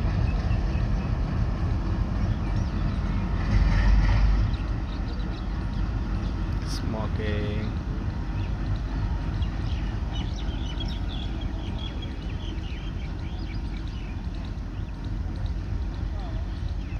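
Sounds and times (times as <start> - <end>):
diesel locomotive engine chugging: 0.0 - 16.9.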